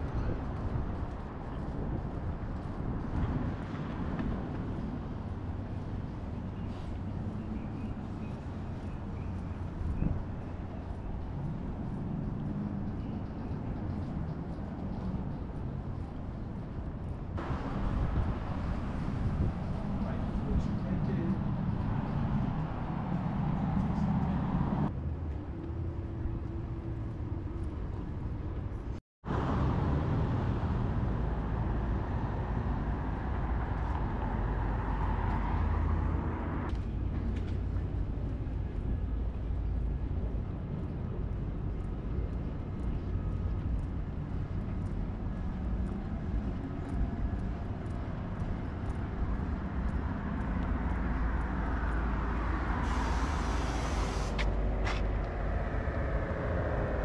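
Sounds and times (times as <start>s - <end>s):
hum of traffic: 0.0s - 57.0s
vehicles passing: 0.0s - 57.0s.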